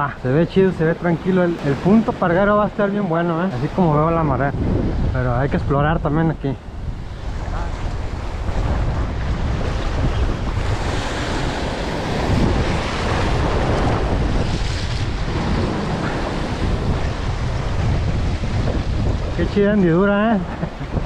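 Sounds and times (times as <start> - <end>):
ocean surf washing in: 0.0 - 21.0
wind buffeting microphone: 0.0 - 21.0.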